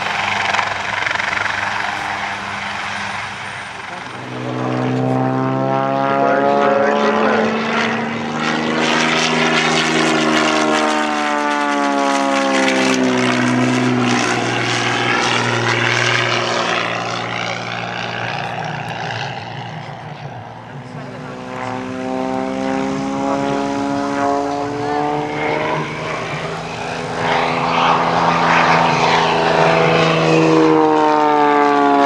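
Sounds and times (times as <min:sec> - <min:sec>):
small plane engine passing: 0:00.0 - 0:32.0.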